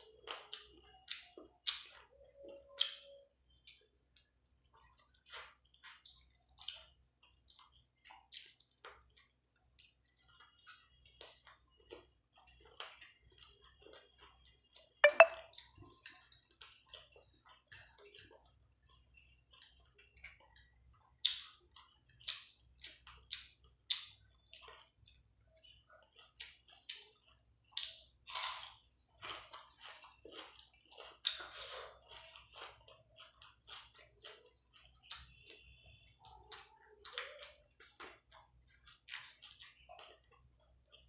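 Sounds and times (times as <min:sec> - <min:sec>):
person chewing wetly: 0:00.0 - 0:41.0.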